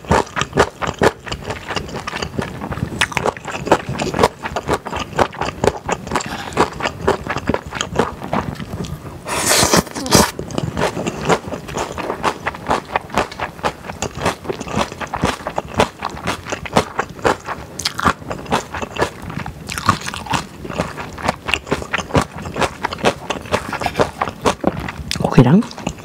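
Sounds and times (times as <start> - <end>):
close chewing of noodles: 0.0 - 26.0.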